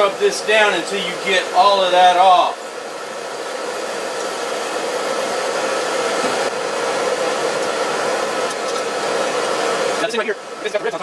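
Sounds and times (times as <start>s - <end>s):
rushing blower-like noise: 0.0s - 11.0s.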